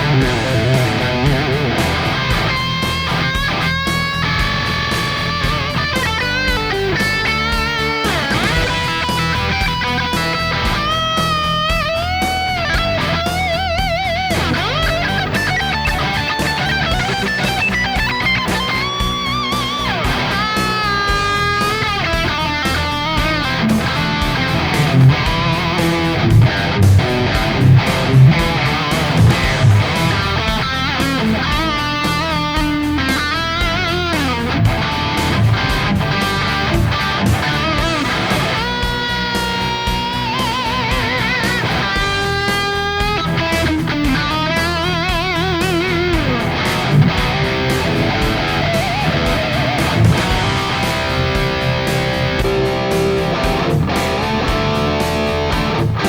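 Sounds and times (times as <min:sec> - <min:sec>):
distorted electric guitar: 0:00.0 - 0:56.0.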